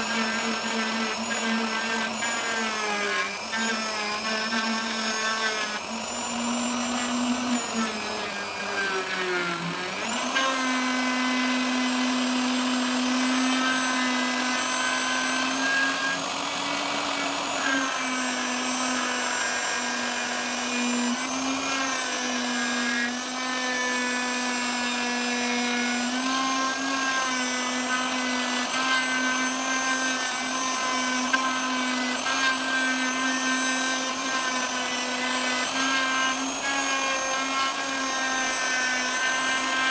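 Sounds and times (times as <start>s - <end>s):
wood router whining: 0.0s - 39.9s.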